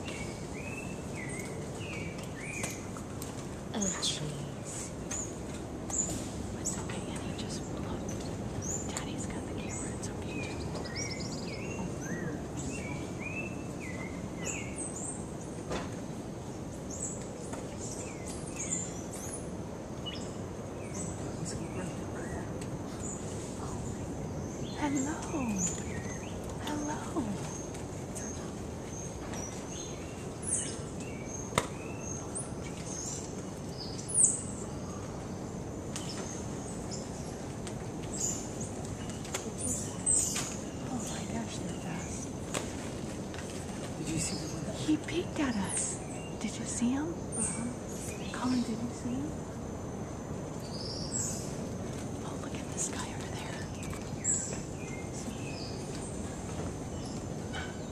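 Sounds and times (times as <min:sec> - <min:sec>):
background hiss: 0:00.0 - 0:57.9.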